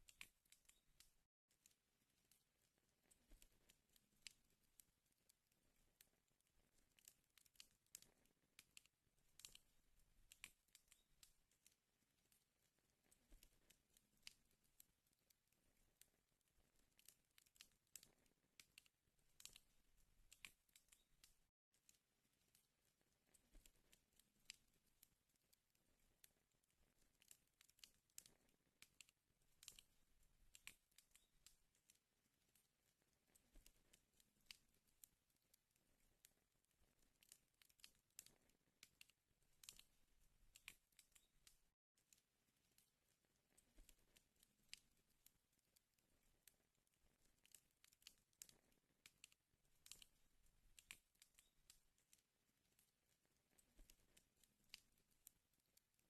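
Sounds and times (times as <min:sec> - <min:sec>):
wood fire crackling: 0:00.0 - 0:04.8, 0:05.6 - 0:21.5, 0:22.3 - 0:25.1, 0:25.7 - 0:41.7, 0:45.8 - 0:56.0.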